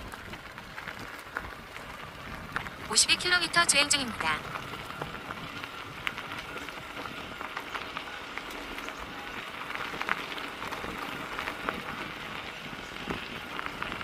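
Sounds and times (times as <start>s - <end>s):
bike tyres on rough trail: 0.0s - 14.0s.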